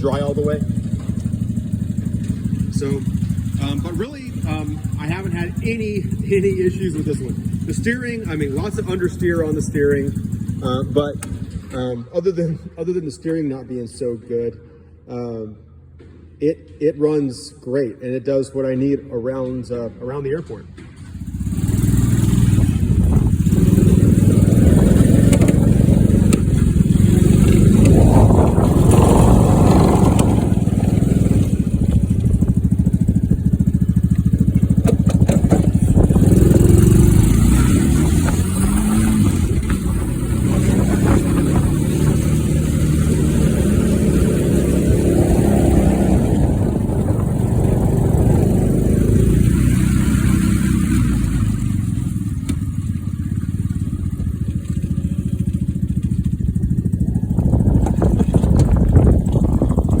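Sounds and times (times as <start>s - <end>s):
small gasoline engine running: 0.0s - 11.8s, 21.0s - 60.0s.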